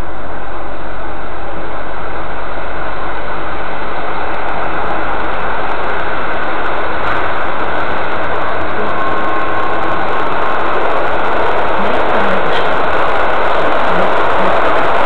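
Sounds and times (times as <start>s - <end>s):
train carriage rumble and rattle: 0.0s - 15.0s.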